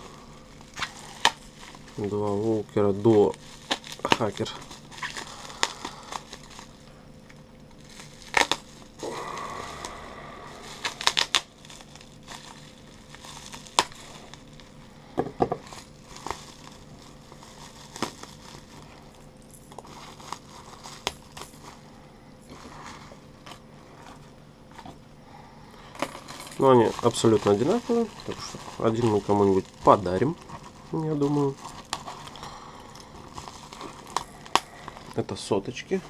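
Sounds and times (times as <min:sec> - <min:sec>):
plastic packaging crinkling: 0:00.0 - 0:25.0, 0:25.7 - 0:36.0.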